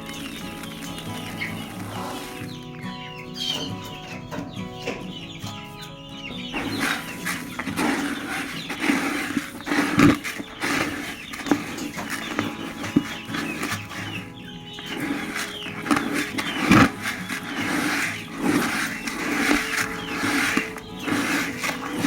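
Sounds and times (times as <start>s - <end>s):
background music: 0.0s - 22.0s
chickens clucking: 0.0s - 22.0s.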